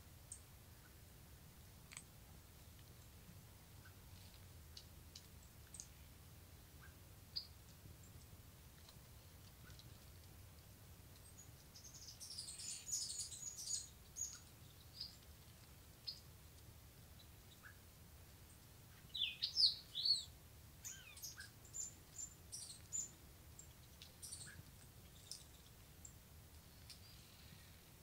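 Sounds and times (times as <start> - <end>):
wild birds chirping: 0.2 - 28.0.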